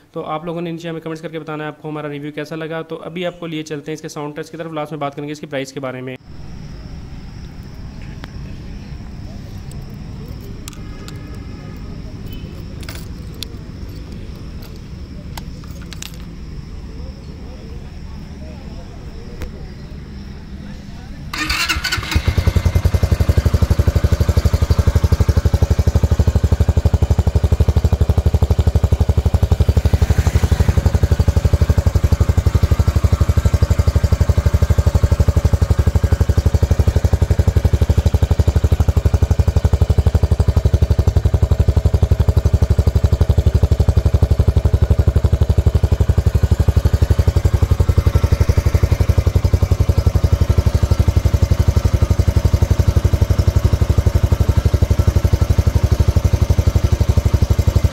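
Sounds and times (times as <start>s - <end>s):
motorcycle engine idling: 6.2s - 57.9s.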